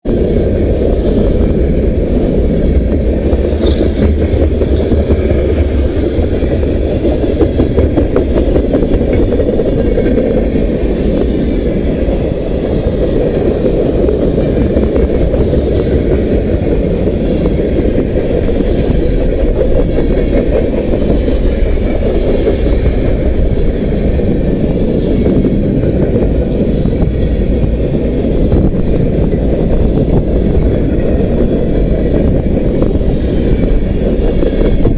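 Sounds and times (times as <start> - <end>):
freight train rolling past: 0.0 - 34.9
wheels clicking over rail joints: 0.1 - 34.9.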